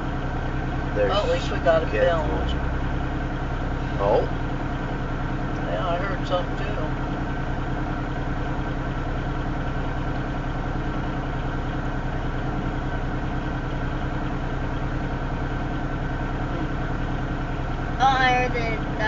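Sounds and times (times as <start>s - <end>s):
locomotive engines idling: 0.0s - 19.0s.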